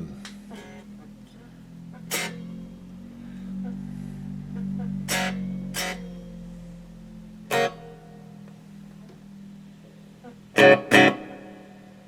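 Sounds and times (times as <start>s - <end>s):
electric guitar chords ringing: 0.0s - 12.0s.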